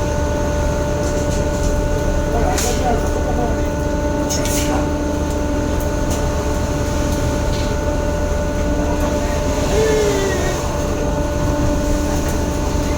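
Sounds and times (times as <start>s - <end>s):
boat engine droning: 0.0s - 12.9s.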